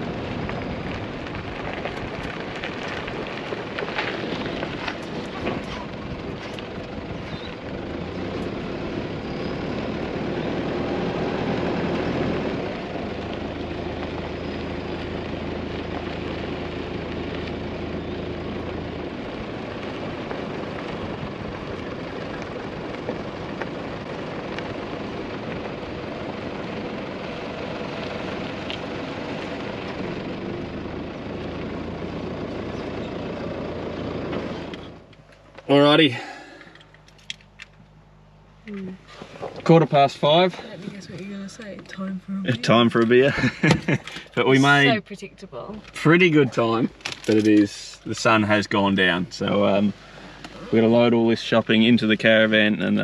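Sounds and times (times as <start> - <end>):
road noise: 0.0 - 53.0
vehicle engine running: 0.0 - 53.0.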